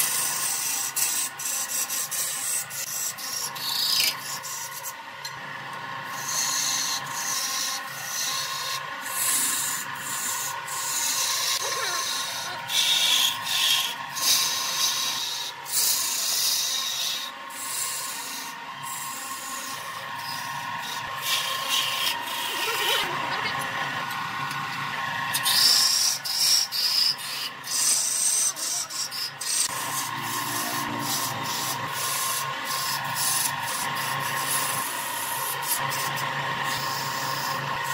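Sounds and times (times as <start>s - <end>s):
turning tool rasping wood: 0.0s - 5.0s, 5.8s - 24.6s, 25.2s - 37.9s
wood lathe motor hum: 0.0s - 37.9s.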